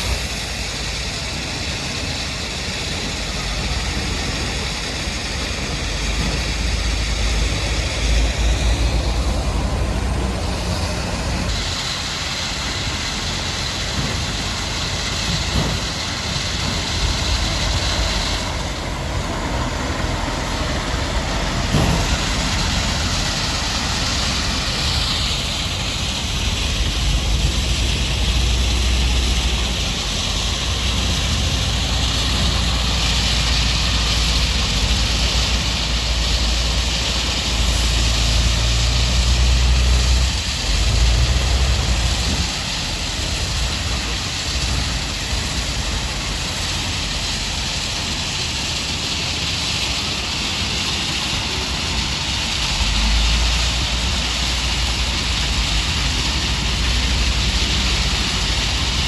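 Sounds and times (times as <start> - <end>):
diesel machinery rumbling: 0.0 - 59.0.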